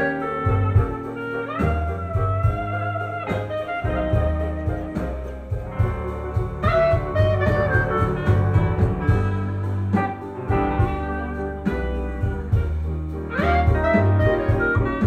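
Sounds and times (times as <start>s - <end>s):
double bass: 0.0s - 15.0s
drums: 0.0s - 15.0s
piano: 0.0s - 15.0s
woodwind playing melody: 0.0s - 15.0s.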